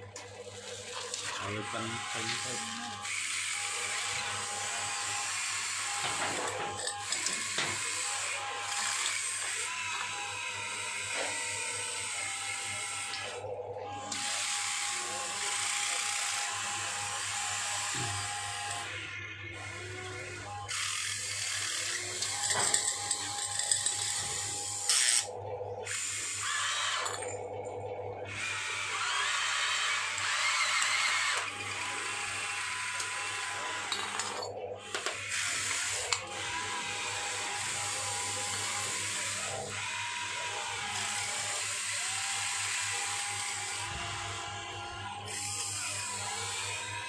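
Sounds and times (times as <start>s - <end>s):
small electric motors whirring: 0.0s - 47.0s.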